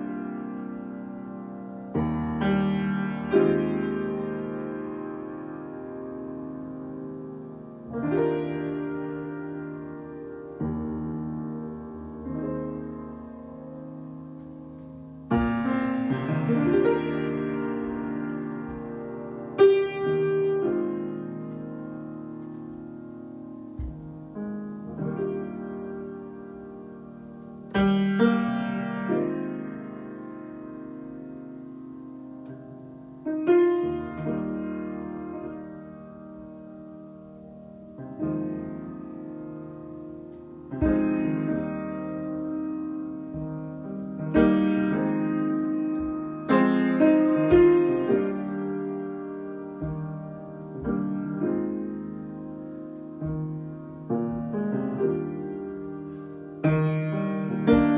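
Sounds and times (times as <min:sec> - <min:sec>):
piano chords: 0:00.0 - 0:57.9.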